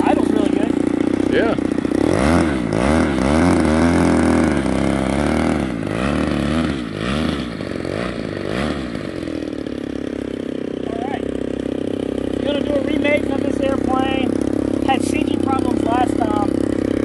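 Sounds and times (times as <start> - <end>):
model plane engine running: 0.0 - 17.0.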